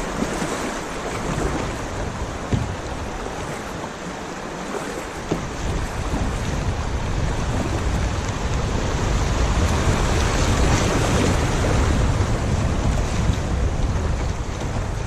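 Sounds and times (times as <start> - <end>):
river water rushing: 0.0 - 15.0
wind buffeting microphone: 0.0 - 15.0.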